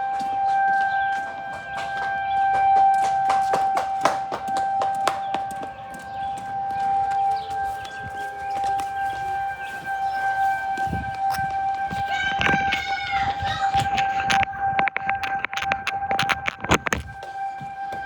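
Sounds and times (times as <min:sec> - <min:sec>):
fainter lower siren: 0:00.0 - 0:18.0
tornado warning sirens: 0:00.0 - 0:18.0.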